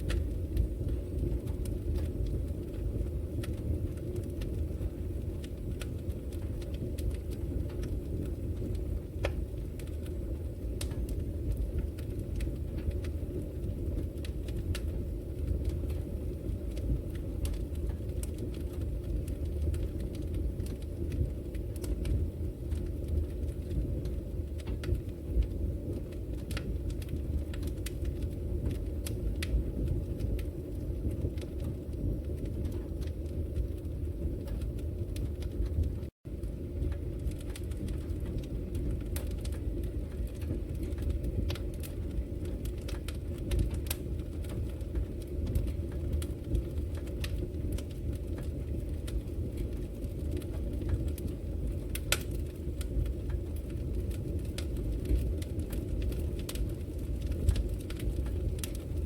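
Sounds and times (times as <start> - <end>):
fire flames rumbling: 0.0 - 59.0
logs crackling and popping: 0.0 - 59.0.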